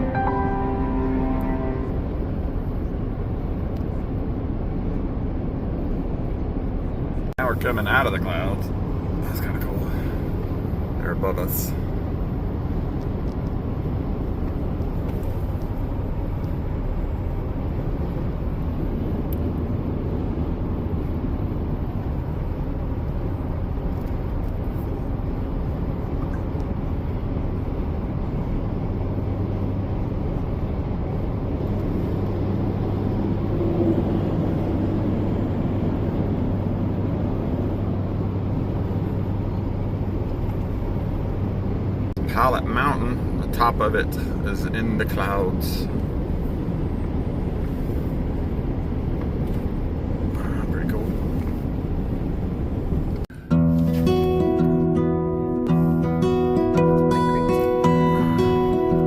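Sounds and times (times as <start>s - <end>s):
road and engine noise in cabin: 0.0s - 59.0s.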